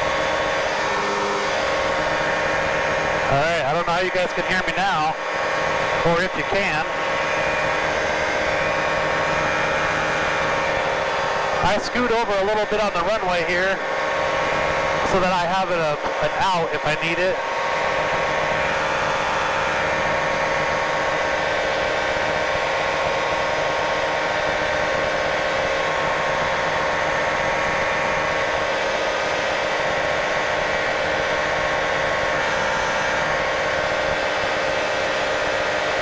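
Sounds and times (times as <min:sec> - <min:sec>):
light aircraft engine running: 0:00.0 - 0:36.0.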